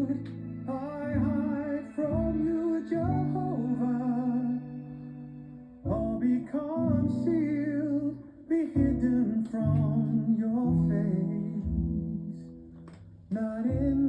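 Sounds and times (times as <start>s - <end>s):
person singing: 0.0s - 12.7s, 13.3s - 14.0s
plucked guitar: 0.0s - 14.0s.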